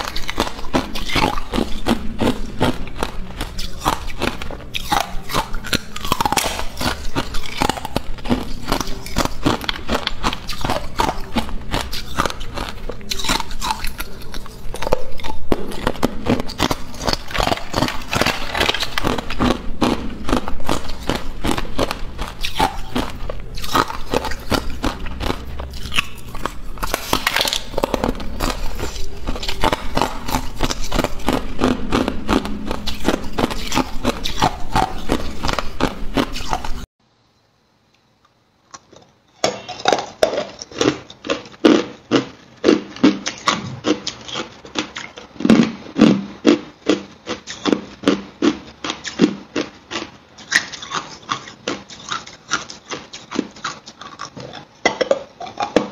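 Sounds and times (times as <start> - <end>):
ice crunching being chewed: 0.0 - 36.9, 38.7 - 55.9.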